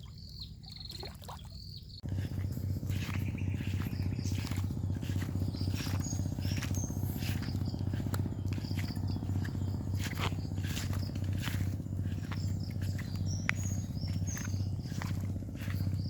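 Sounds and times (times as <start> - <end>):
low throbbing hum: 1.9 - 16.0.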